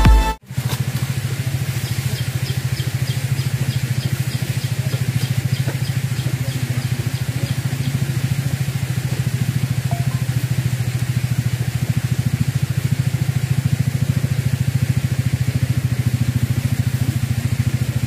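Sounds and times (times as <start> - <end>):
small engine idling: 0.4 - 18.0.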